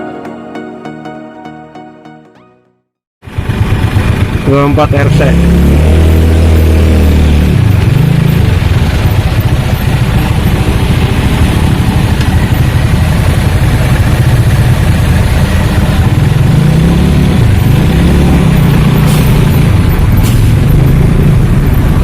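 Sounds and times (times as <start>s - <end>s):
bus diesel engine rumbling: 3.2s - 22.0s.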